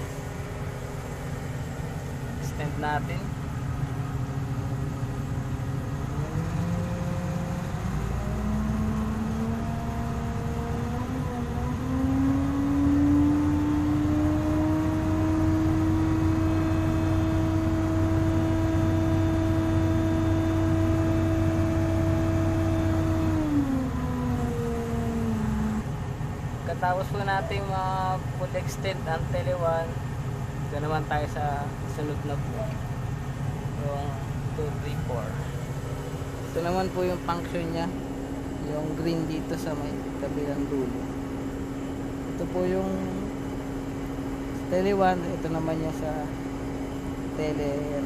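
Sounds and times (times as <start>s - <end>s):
diesel engine speeding up: 0.0s - 48.0s.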